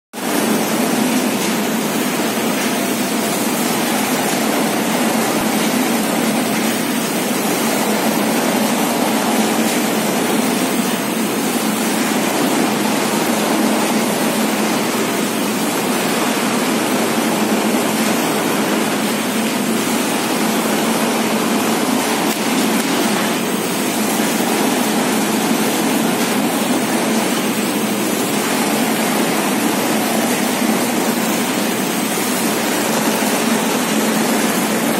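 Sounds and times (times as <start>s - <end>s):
machine motors and conveyor running: 0.2s - 34.9s.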